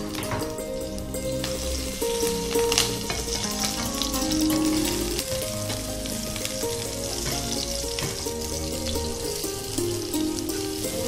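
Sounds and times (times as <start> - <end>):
background music: 0.0 - 11.0
chillies sizzling in hot oil: 0.0 - 11.0.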